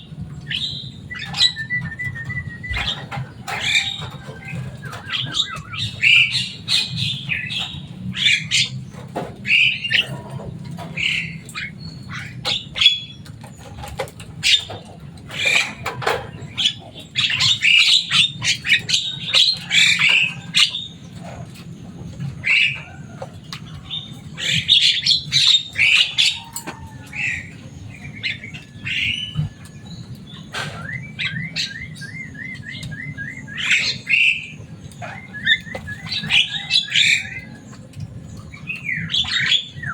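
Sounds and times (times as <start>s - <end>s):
myna squawking and chattering: 0.0s - 13.1s, 13.8s - 39.9s.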